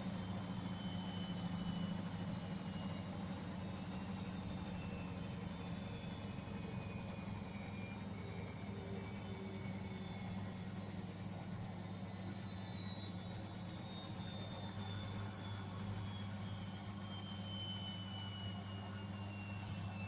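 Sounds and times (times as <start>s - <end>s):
high motor whine: 0.0s - 20.0s
washing machine spinning: 0.0s - 20.0s.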